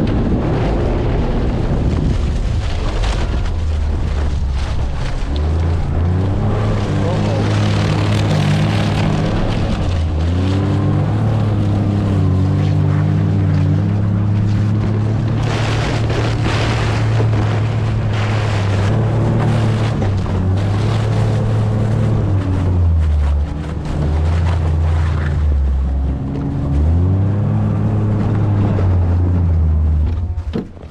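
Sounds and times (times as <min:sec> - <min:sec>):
utility vehicle engine running: 0:00.0 - 0:30.9
wind rushing over microphone: 0:00.0 - 0:30.9.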